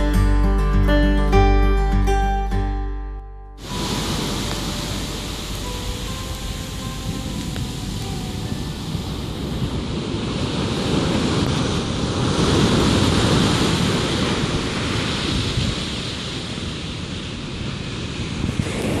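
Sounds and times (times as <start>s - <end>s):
surf washing up a beach: 3.6s - 19.0s
wind buffeting microphone: 3.6s - 19.0s.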